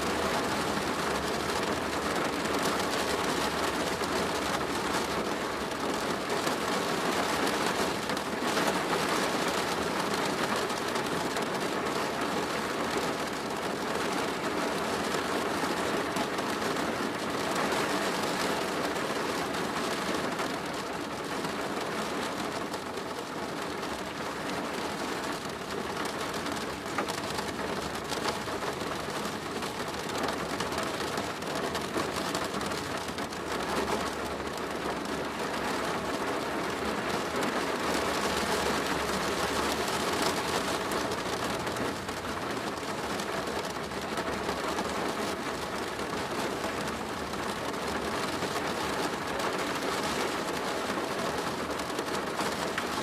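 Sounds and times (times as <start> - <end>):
rain on a plastic roof: 0.0 - 53.0.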